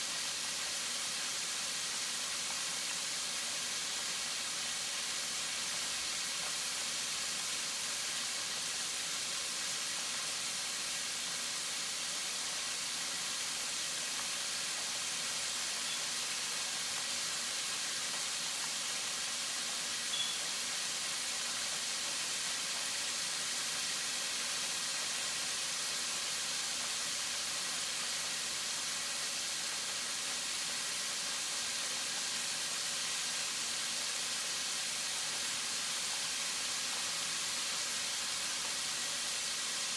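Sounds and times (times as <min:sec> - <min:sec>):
chicken frying sizzling: 0:00.0 - 0:39.9.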